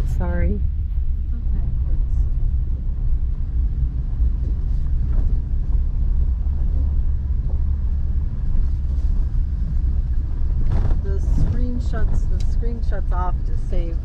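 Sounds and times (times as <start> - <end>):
vehicle rumble from inside cabin: 0.0 - 14.0.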